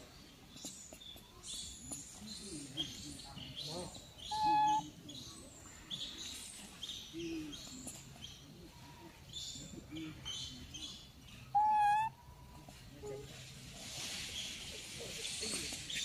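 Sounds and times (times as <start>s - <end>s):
birds chirping: 0.0s - 13.3s.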